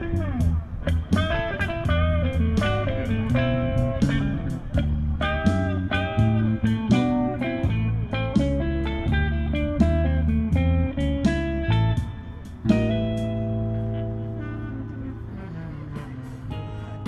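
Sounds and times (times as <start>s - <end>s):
bluesy instrumental music: 0.0s - 17.0s.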